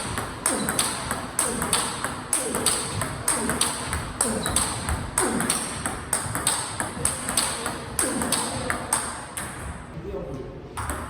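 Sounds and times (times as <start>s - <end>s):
table tennis ball hits: 0.0s - 9.8s, 10.8s - 11.0s
ball bouncing on table: 0.1s - 9.8s, 10.8s - 11.0s.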